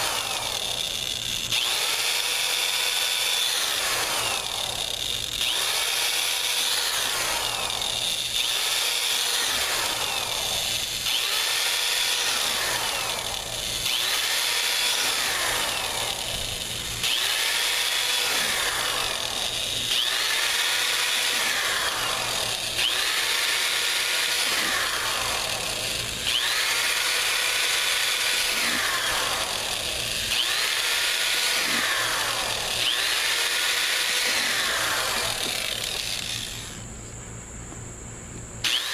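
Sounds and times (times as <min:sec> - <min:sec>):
electric drill boring into plastic: 0:00.0 - 0:36.8, 0:38.6 - 0:38.9.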